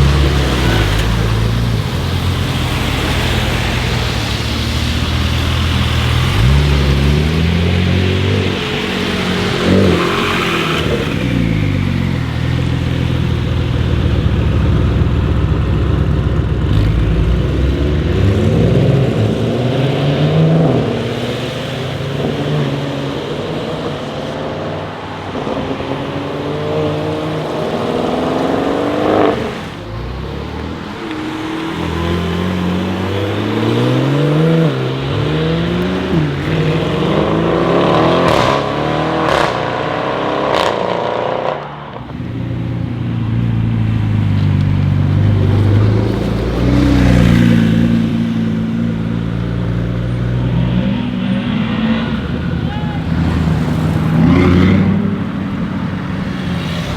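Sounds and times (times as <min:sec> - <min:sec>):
car engine accelerating: 0:00.0 - 0:56.9.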